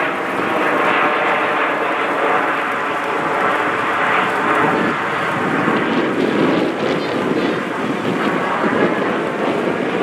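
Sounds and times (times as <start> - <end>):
jets flying overhead: 0.0 - 10.0.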